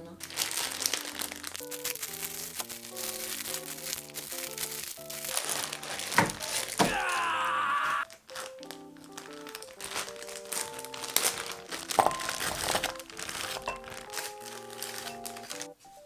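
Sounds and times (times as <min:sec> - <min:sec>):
plastic bag crinkling: 0:00.0 - 0:15.8
light background music: 0:00.0 - 0:16.0
frozen pieces knocking into bowl: 0:00.2 - 0:15.7.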